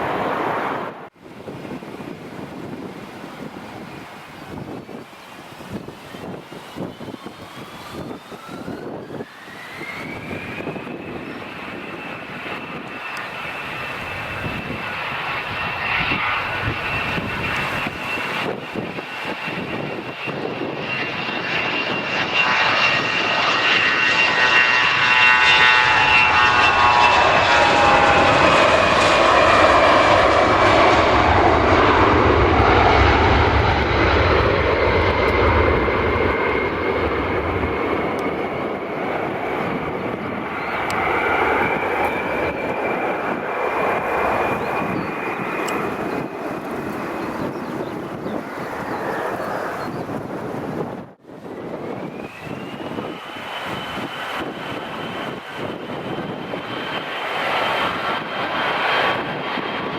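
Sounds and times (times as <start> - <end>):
jet engine whine: 0.0 - 59.9.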